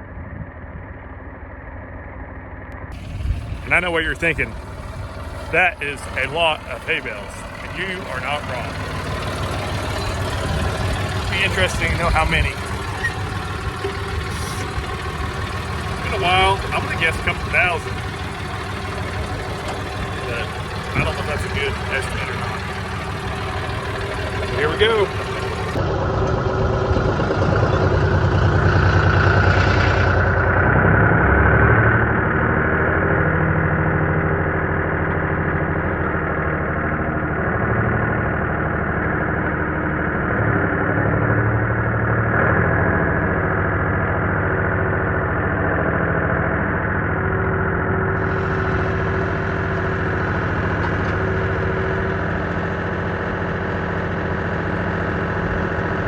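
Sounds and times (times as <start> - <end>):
tractor engine under load: 1.1 - 56.0.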